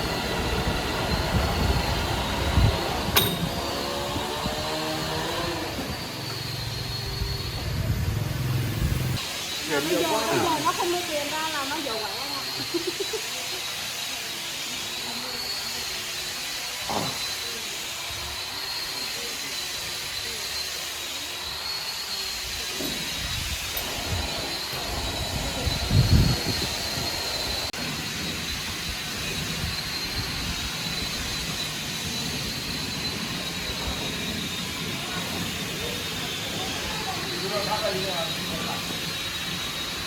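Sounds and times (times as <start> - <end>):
machine whining: 0.0 - 40.0.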